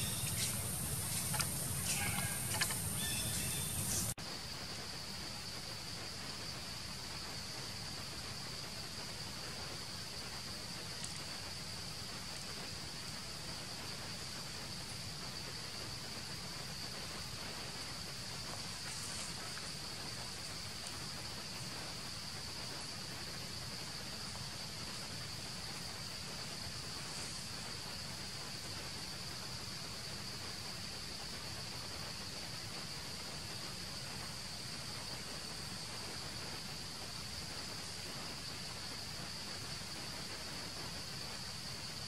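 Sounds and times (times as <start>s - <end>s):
faint outdoor hiss: 0.0s - 42.0s
high-pitched insect chorus: 0.0s - 42.0s.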